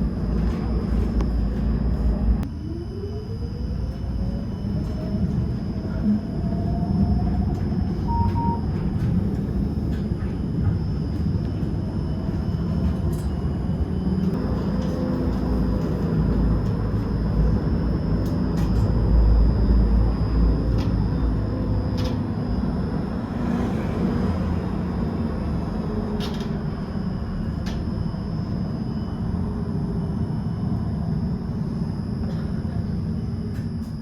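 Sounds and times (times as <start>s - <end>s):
tram motor whine: 0.0s - 34.0s
tram rumbling on rails: 0.0s - 34.0s.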